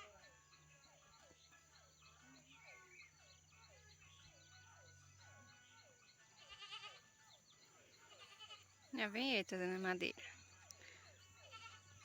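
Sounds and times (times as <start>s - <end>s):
faint animal calls: 0.0s - 8.9s, 10.8s - 12.0s.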